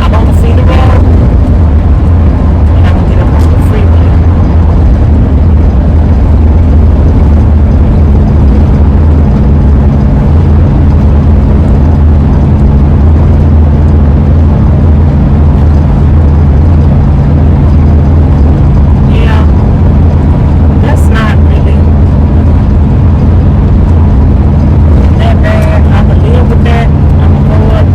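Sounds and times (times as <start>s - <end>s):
constant low hum: 0.0s - 27.9s
wind and road noise in vehicle: 0.0s - 27.9s.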